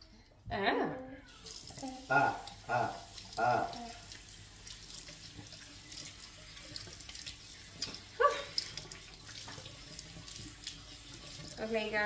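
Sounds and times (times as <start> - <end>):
tap water running into sink: 1.2 - 12.0
water splashing: 1.3 - 12.0.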